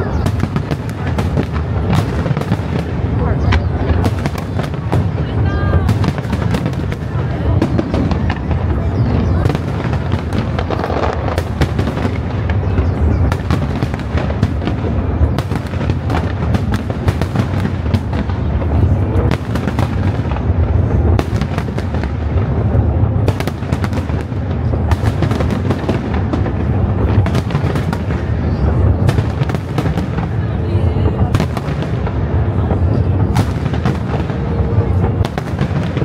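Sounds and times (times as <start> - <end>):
firework shell bursts and crackling: 0.0 - 36.0.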